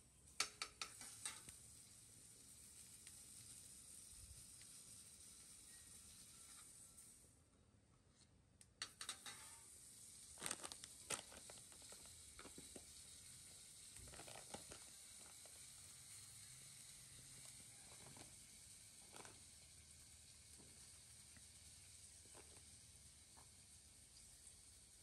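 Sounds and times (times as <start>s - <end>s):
faint sizzling in a wok: 0.0s - 25.0s.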